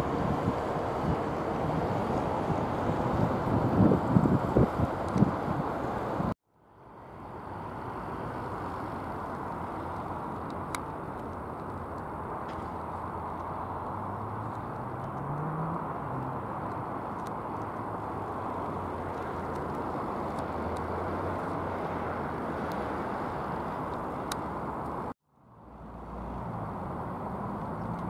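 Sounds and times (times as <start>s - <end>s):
distant road traffic: 0.0s - 28.0s.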